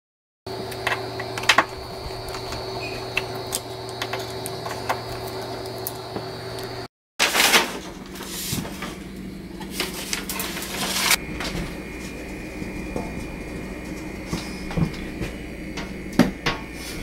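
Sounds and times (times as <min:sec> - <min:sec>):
steady hum: 0:00.5 - 0:17.0.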